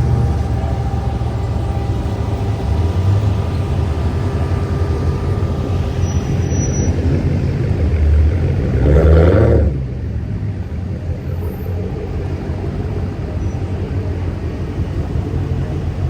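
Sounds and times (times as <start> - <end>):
car engine running steadily: 0.0 - 16.0.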